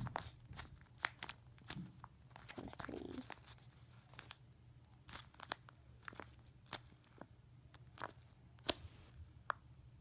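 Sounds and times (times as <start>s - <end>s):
taped paper crinkling and crackling: 0.0s - 8.8s.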